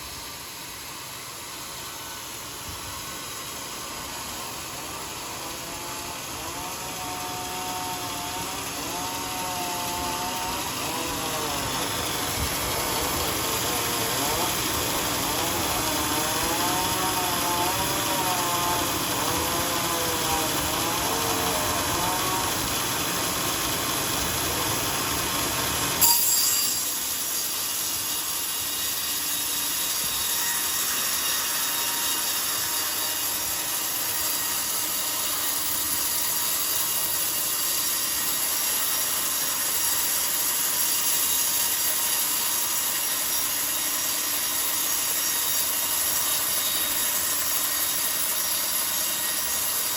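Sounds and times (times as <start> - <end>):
bandsaw cutting log: 0.0 - 49.9.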